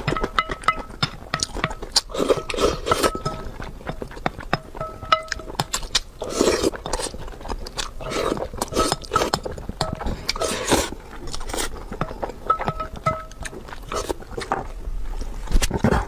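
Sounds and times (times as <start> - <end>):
person biting and chewing food: 0.0 - 16.0.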